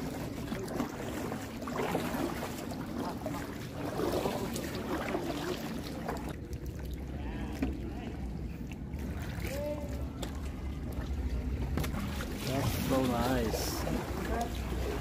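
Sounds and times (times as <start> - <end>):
water sloshing around canoe: 0.0 - 15.0.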